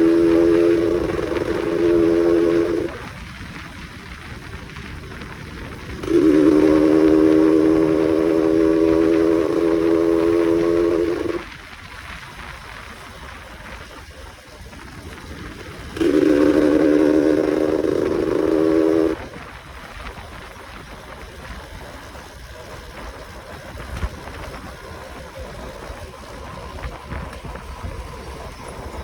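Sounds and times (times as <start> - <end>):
two-stroke motorcycle exhaust droning: 0.0 - 29.0.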